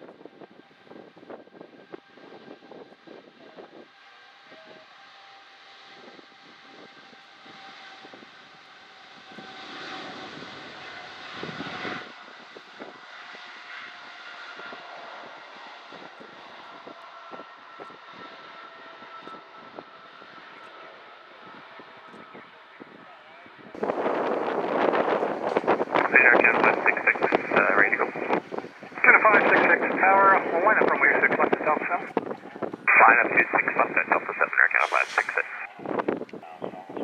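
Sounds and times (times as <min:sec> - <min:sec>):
jet engines at takeoff power: 0:00.0 - 0:37.0.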